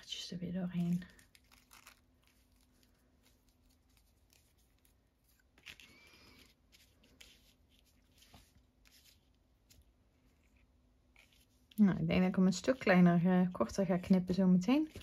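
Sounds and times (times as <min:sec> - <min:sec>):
paper and ribbon rustling: 0:00.6 - 0:15.0
ribbon scraping through paper: 0:00.8 - 0:11.8, 0:12.4 - 0:15.0.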